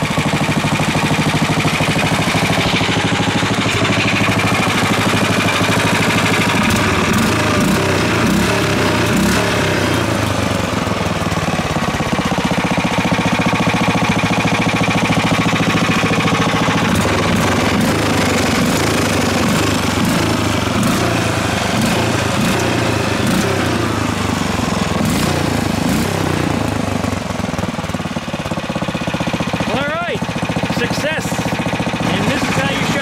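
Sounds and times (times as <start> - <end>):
go-kart engine running: 0.0 - 33.0.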